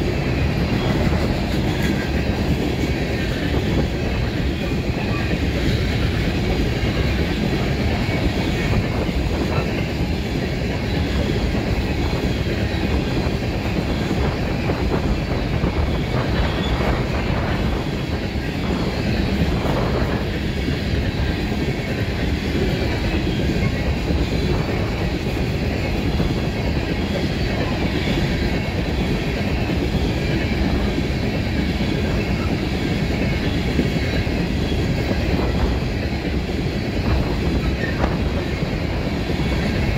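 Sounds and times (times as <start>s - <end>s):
train wheels rumbling and clacking: 0.0s - 39.9s.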